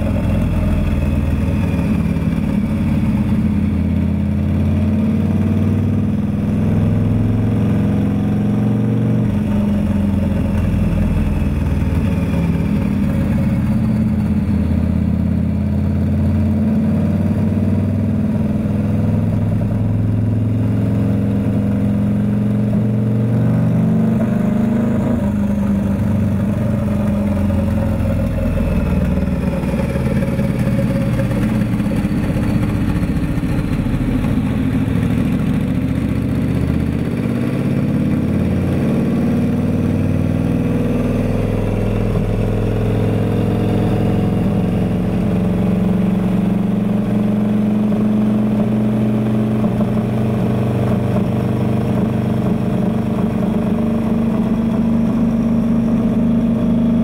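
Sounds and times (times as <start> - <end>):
motorcycle engine running steadily: 0.0 - 57.0.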